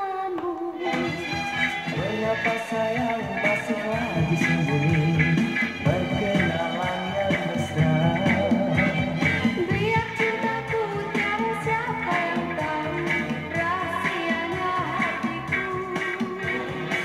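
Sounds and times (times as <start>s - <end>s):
pop song from vinyl record: 0.0s - 17.0s.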